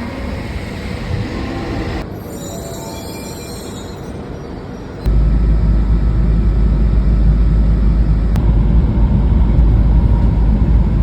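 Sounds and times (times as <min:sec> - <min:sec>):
high-speed train rumble and roar: 0:00.0 - 0:11.0.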